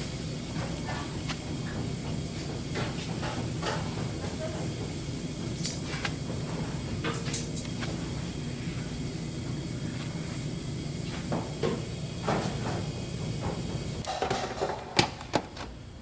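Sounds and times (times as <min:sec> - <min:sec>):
steady hum: 0:00.0 - 0:14.1.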